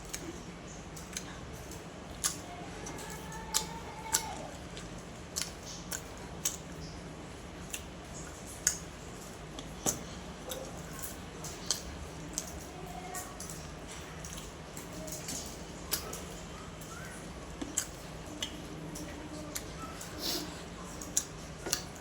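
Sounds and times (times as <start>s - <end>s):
wet chewing smacks: 0.0s - 7.0s, 7.6s - 22.0s
faint steady hum: 0.0s - 22.0s.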